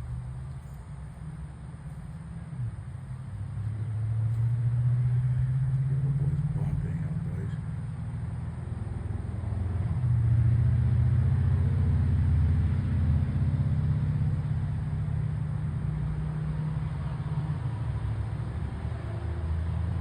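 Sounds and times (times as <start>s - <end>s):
low mechanical rumble: 0.0s - 20.0s.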